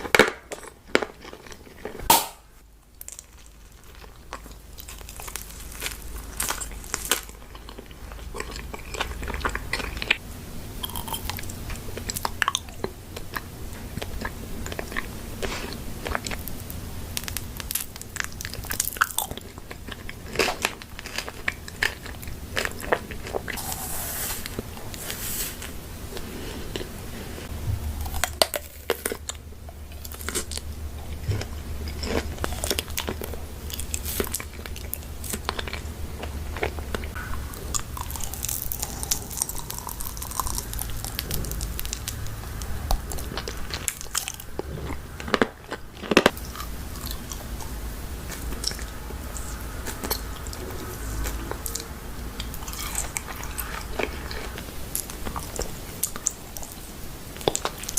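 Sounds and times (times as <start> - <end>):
crunchy chewing: 0.0 - 2.1, 2.9 - 10.2, 10.8 - 57.9.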